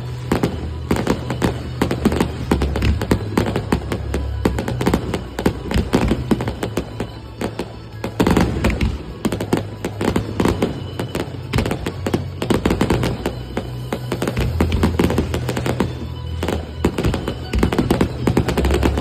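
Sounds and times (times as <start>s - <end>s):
fireworks cracks and bangs: 0.0s - 19.0s
music playing: 0.0s - 19.0s.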